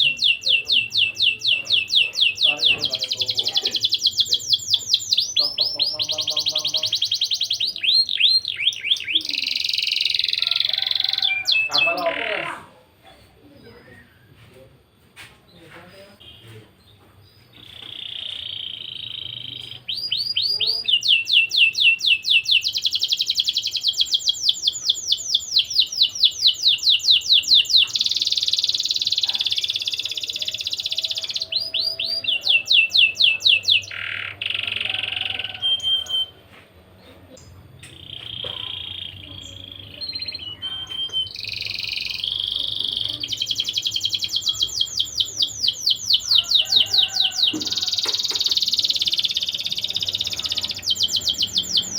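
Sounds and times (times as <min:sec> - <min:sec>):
canary singing rapid trills: 0:00.0 - 0:12.6, 0:17.6 - 0:36.4, 0:37.8 - 0:51.9.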